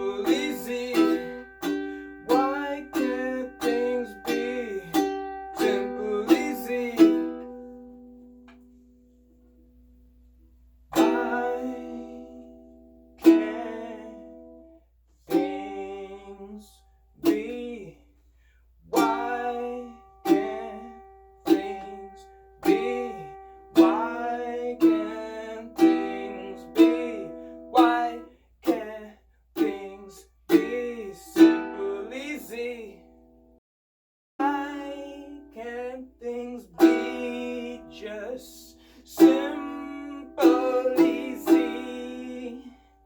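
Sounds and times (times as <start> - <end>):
ukulele strummed chords: 0.0 - 9.9, 10.9 - 16.6, 17.2 - 17.9, 18.9 - 33.5, 34.4 - 43.0.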